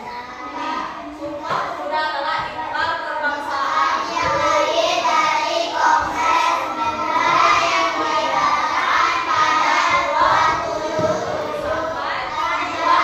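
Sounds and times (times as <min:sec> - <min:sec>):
children singing: 0:00.0 - 0:01.8, 0:03.3 - 0:13.0.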